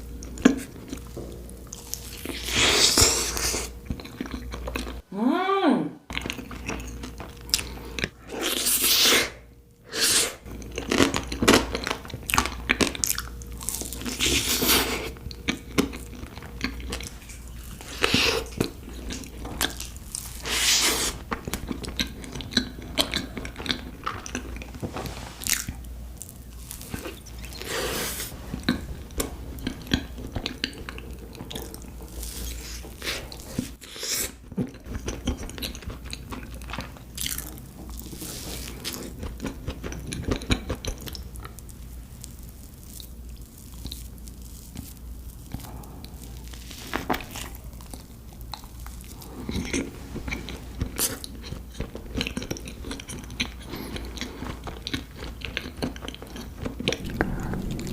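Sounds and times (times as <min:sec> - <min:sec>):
chewing and biting cake: 0:10.1 - 0:24.8, 0:25.4 - 0:57.9.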